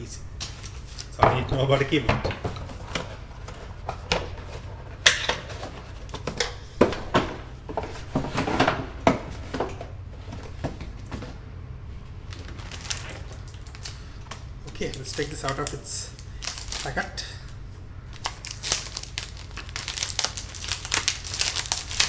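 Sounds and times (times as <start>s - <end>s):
low steady hum: 0.0s - 22.0s
cardboard and paper rustling: 0.4s - 22.0s.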